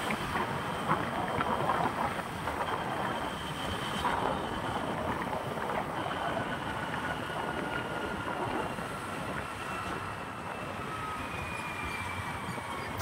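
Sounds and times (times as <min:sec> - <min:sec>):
road noise rush: 0:00.0 - 0:13.0.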